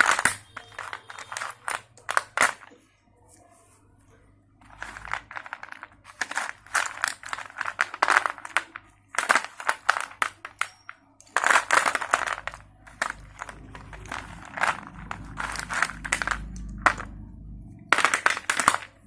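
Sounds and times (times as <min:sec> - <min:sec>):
slate pencils crunching: 0:00.0 - 0:03.7, 0:04.6 - 0:19.0.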